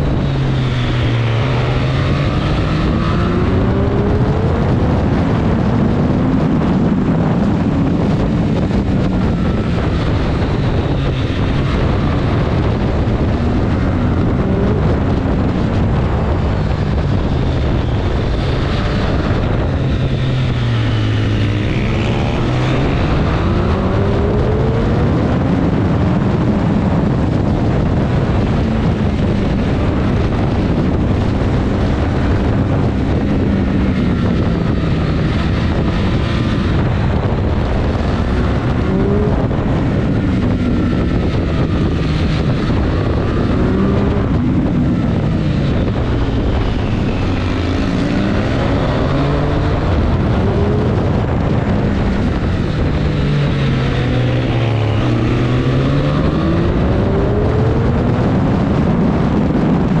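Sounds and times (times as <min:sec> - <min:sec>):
motorcycle engine accelerating: 0:00.0 - 1:00.0.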